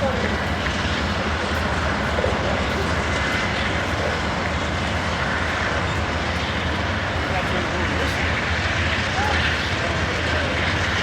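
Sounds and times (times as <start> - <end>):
passenger train rumbling: 0.0 - 11.0.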